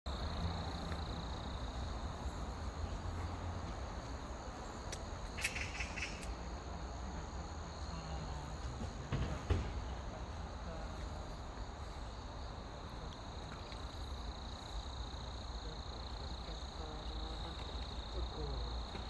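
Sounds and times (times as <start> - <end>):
insects trilling: 0.1 - 19.0.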